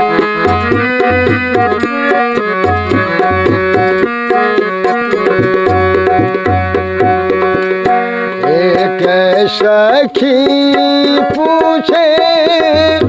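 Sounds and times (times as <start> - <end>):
sustained melody line: 0.0 - 13.0
tabla rhythm: 0.0 - 13.0.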